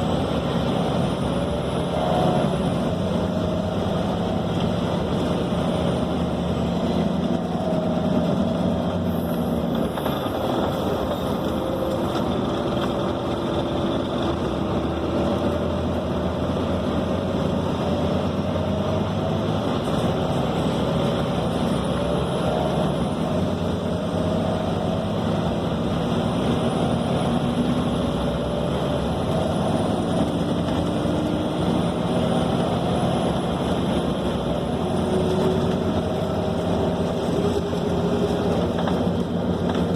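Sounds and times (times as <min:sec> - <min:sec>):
bus engine: 0:00.0 - 0:39.9
road and body rumble: 0:00.0 - 0:39.9.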